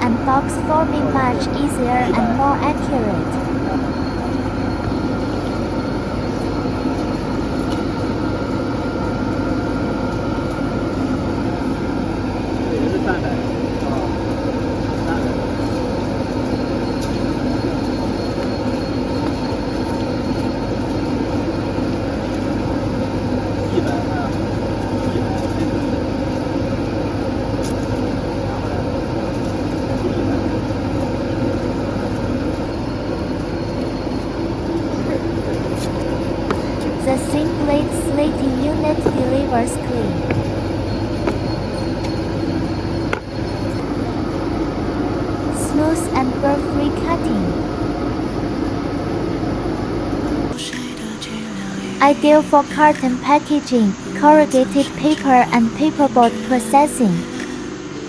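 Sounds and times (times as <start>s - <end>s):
machine rumbling: 0.0s - 50.6s
faint constant whine: 0.0s - 58.0s
low hum: 0.0s - 58.0s.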